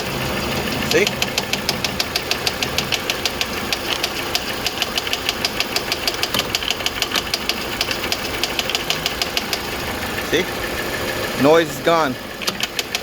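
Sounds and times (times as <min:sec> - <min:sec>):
rapid ticking knock from pulley: 0:00.0 - 0:10.2, 0:12.3 - 0:13.0
car engine idling: 0:00.0 - 0:13.0.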